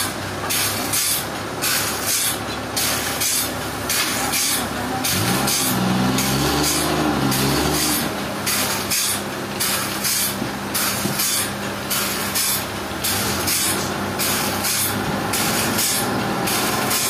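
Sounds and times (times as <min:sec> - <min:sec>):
pulsing machinery hiss: 0:00.5 - 0:17.0.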